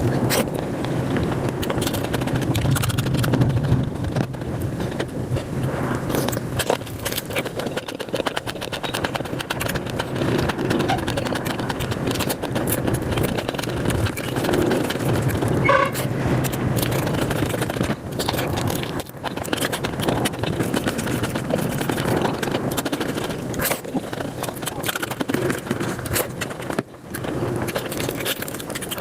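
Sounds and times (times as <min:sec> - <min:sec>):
chewing with clicks and smacks: 0:00.0 - 0:29.0.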